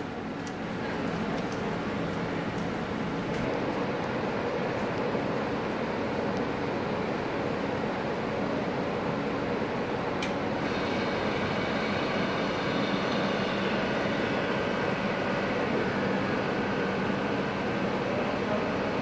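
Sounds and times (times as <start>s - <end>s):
train fans humming and hissing: 0.0s - 19.0s.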